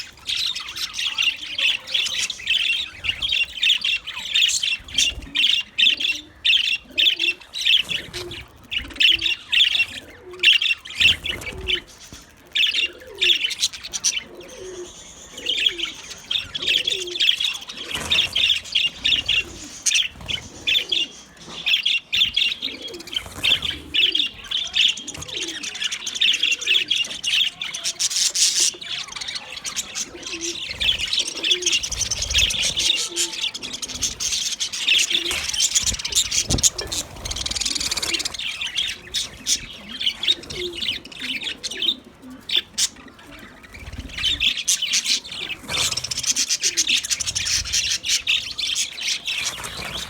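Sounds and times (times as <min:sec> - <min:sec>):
budgerigars chirping: 0:00.0 - 0:50.0.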